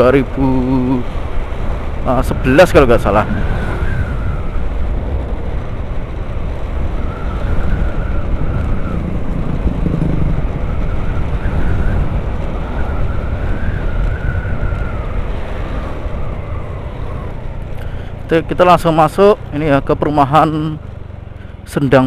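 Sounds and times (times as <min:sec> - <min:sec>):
wavering scooter whine: 0:00.0 - 0:18.4
wind and road noise: 0:00.0 - 0:22.0.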